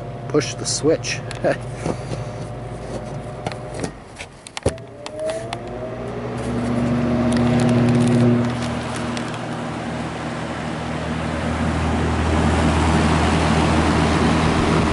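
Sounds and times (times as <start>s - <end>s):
fan motor humming: 0.0s - 14.9s.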